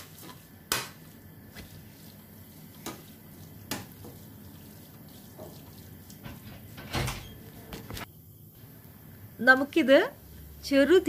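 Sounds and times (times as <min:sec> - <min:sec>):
faint sizzle of frying: 0:00.0 - 0:11.0.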